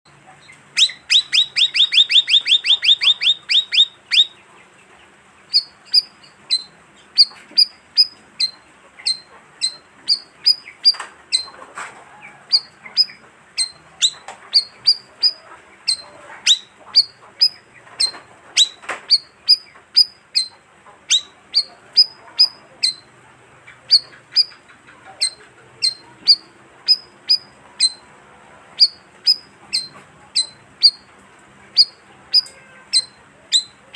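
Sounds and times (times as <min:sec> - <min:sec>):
bird chirping high: 0:00.4 - 0:04.5, 0:05.5 - 0:11.6, 0:12.5 - 0:28.2, 0:28.8 - 0:33.9
bird calling sharp notes: 0:00.6 - 0:04.4, 0:05.5 - 0:11.6, 0:12.5 - 0:28.2, 0:28.8 - 0:31.1, 0:31.7 - 0:33.9.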